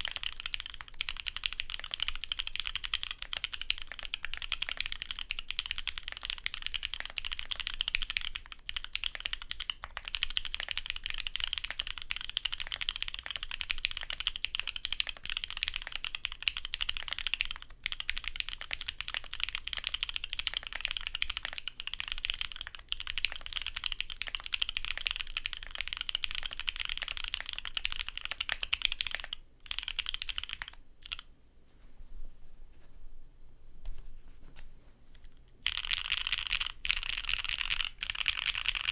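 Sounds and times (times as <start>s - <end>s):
mechanical keyboard typing: 0.0s - 31.3s, 35.6s - 38.9s.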